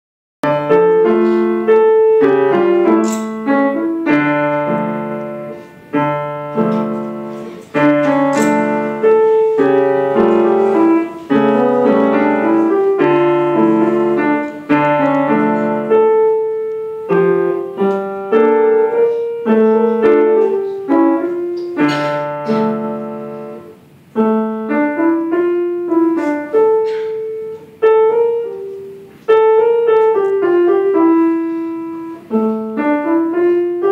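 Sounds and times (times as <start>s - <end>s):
solo piano: 0.4s - 33.9s.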